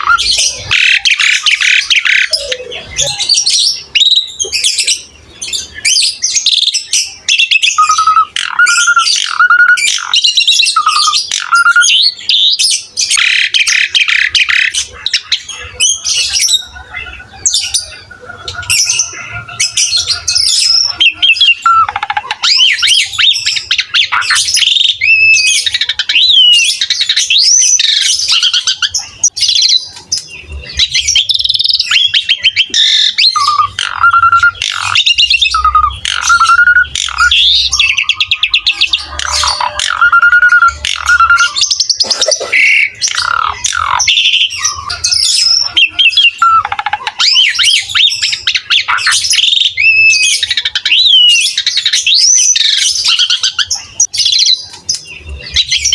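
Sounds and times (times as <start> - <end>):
starling singing: 0.0 - 55.9.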